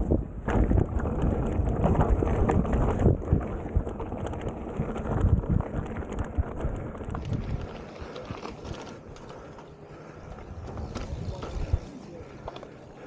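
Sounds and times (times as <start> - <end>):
wind rumble on camera: 0.0 - 9.4, 10.2 - 12.0
bike knocking and rattling: 0.0 - 13.0
tyres crunching over dirt: 0.5 - 13.0.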